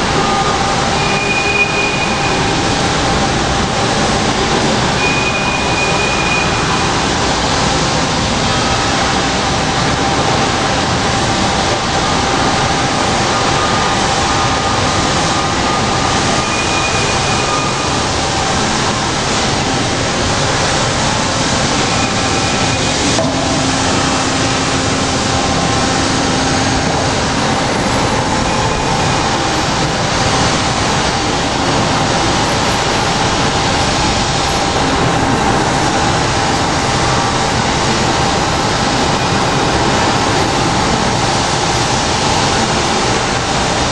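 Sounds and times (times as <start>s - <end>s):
band saw running: 0.0s - 43.9s
faint steady whine: 0.0s - 43.9s.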